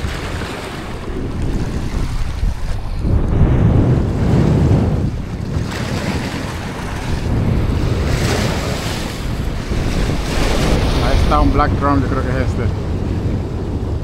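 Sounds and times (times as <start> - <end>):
surf washing against rocks: 0.0 - 14.0
wind buffeting microphone: 0.0 - 14.0.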